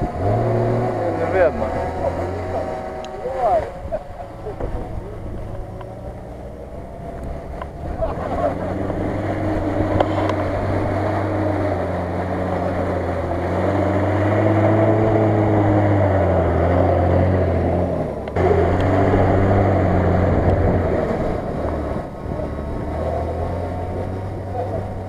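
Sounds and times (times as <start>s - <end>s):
off-road vehicle engine under load: 0.0s - 25.0s.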